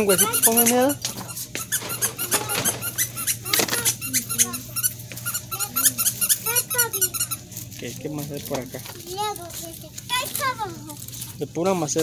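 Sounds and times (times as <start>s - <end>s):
shopping cart wheel squeaking: 0.0s - 12.0s
steady low hum: 0.0s - 12.0s.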